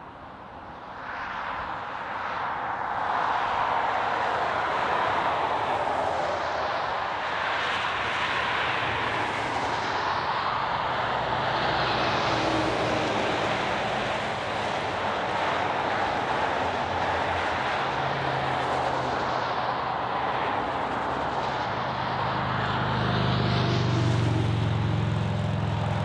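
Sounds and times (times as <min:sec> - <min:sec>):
highway traffic rush: 0:00.0 - 0:26.0
vehicles sweeping past: 0:00.0 - 0:26.0.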